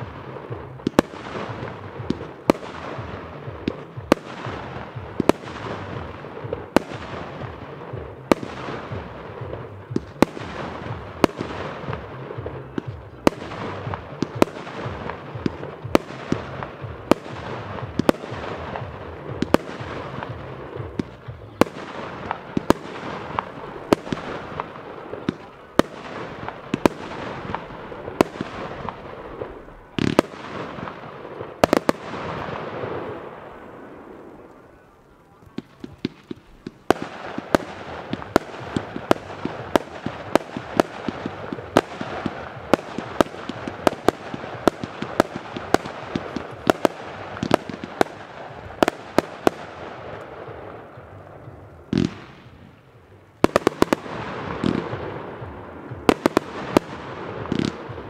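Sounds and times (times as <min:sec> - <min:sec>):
fireworks cake firing shots: 0:00.0 - 0:58.0.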